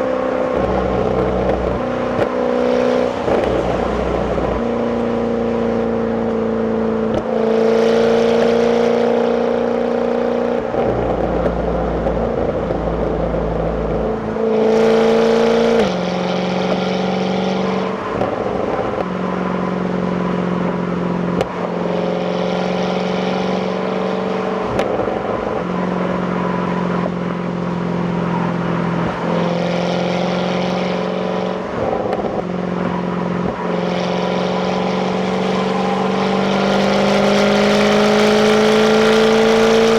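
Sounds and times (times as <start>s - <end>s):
car engine shifting gears: 0.0s - 39.9s.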